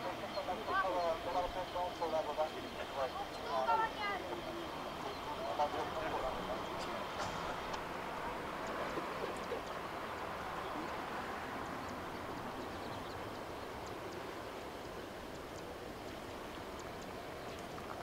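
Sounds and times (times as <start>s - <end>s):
distant jet engine rumble: 0.0s - 18.0s.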